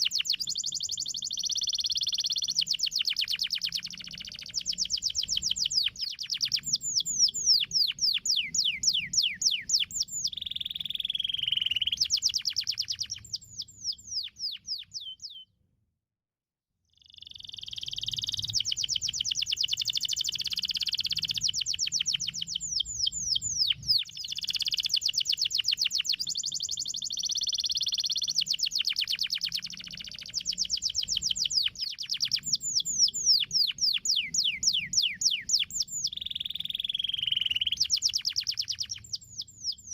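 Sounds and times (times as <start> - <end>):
canary singing: 0.0 - 15.5, 17.0 - 39.9.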